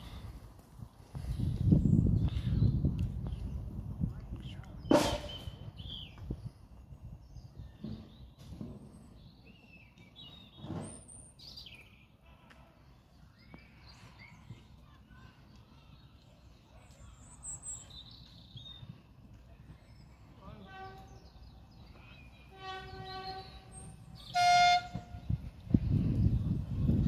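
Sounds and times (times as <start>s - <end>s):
small birds chirping: 1.0s - 24.4s.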